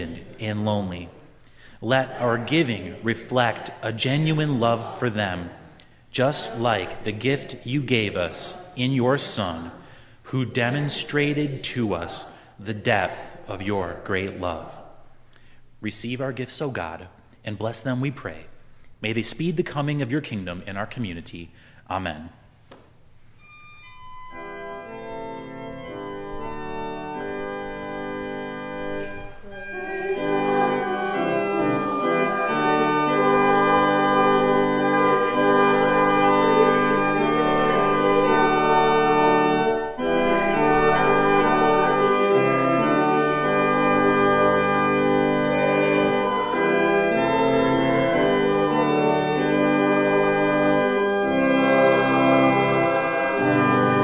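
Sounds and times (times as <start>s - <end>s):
organ playing slow chords: 0.0s - 22.4s, 23.2s - 54.0s.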